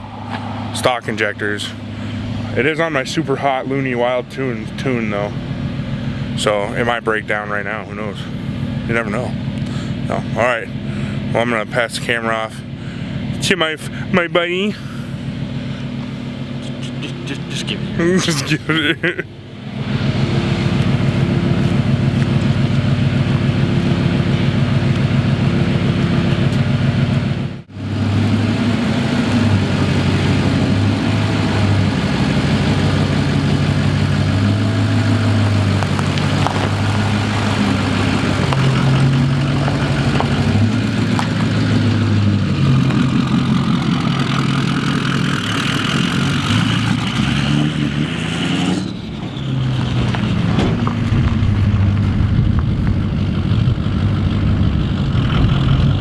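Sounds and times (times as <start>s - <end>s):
diesel truck engine accelerating: 0.0s - 56.0s.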